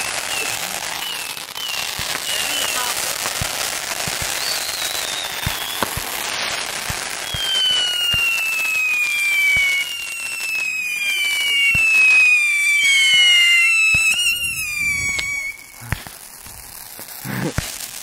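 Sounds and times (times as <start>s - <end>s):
fireworks crackling and popping: 0.0s - 18.0s
fireworks whistling: 0.0s - 18.0s.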